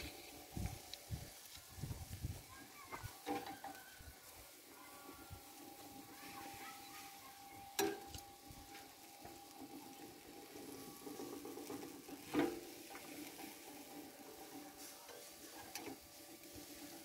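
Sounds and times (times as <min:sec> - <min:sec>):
fat sizzling on embers: 0:00.0 - 0:17.0.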